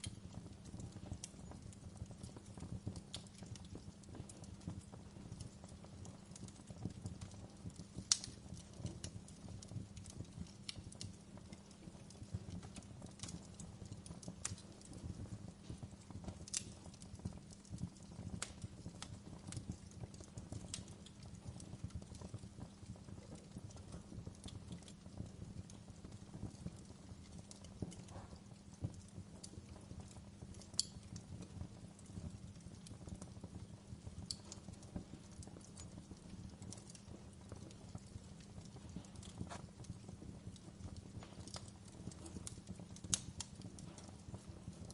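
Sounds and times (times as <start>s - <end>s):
sharp snaps of fire: 0.0s - 44.9s
wood fire crackling: 0.0s - 44.9s.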